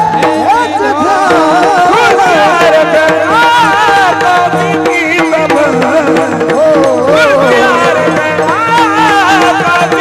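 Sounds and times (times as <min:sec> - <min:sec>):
hand drum: 0:00.0 - 0:10.0
man singing devotional tune: 0:00.0 - 0:10.0.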